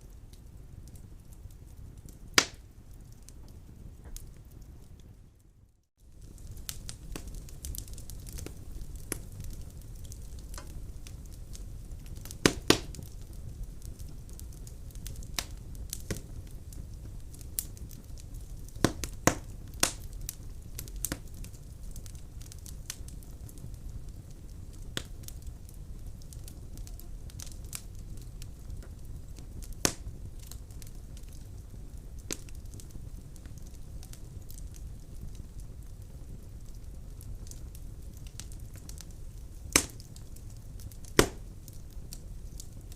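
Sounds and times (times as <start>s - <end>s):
burning logs popping: 0.0s - 42.9s
wood fire crackling: 0.0s - 42.9s.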